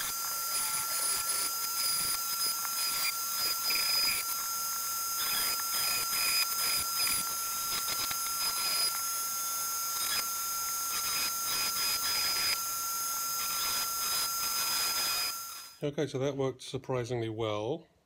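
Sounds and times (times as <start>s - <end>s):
burr grinding metal: 0.0s - 15.8s
rotary tool whine: 0.0s - 15.8s.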